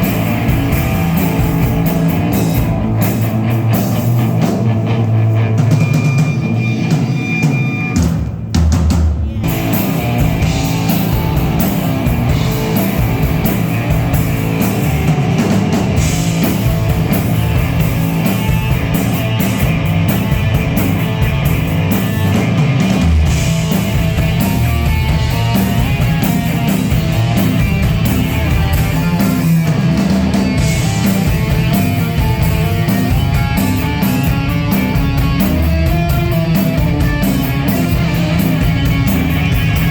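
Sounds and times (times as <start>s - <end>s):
electric guitar: 0.0s - 8.5s, 9.1s - 39.9s
drum kit: 0.0s - 39.9s.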